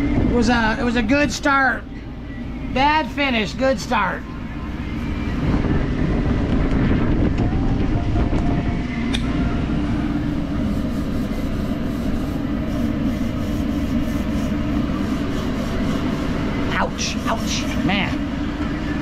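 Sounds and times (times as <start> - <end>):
low mechanical rumble: 0.0 - 19.0.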